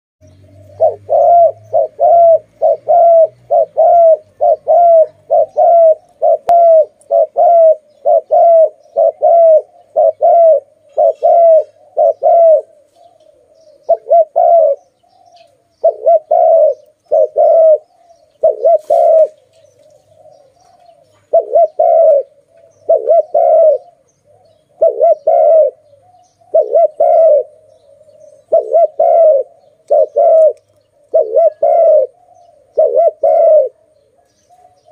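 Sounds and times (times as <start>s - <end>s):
dove cooing: 0.4s - 34.9s.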